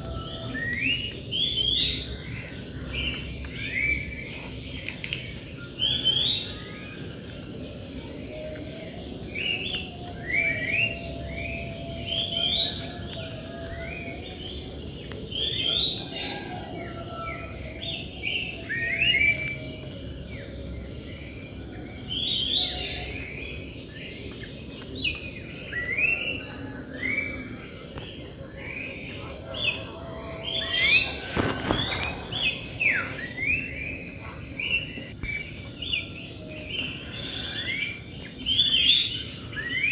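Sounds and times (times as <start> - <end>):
insects buzzing: 0.0 - 39.9
wild birds chirping: 0.0 - 39.9.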